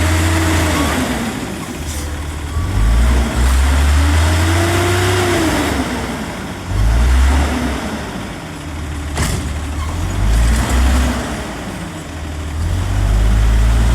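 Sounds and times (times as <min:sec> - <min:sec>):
garbage truck diesel engine: 0:00.0 - 0:13.9.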